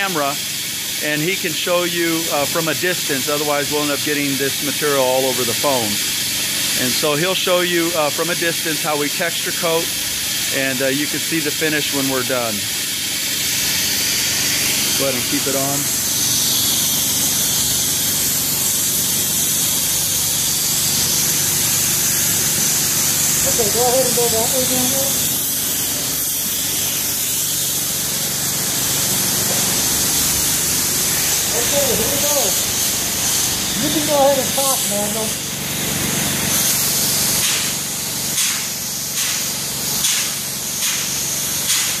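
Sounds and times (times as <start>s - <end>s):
spray equipment hissing: 0.0s - 42.0s.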